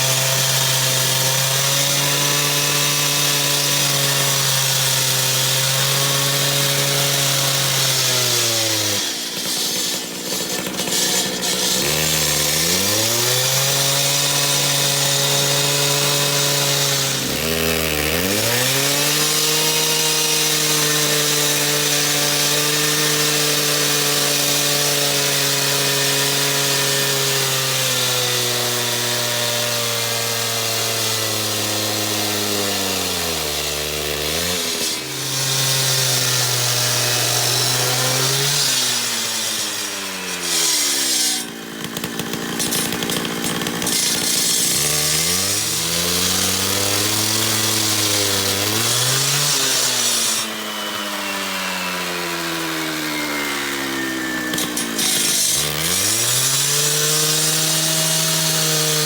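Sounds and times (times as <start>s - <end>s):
concrete saw cutting: 0.0s - 59.0s.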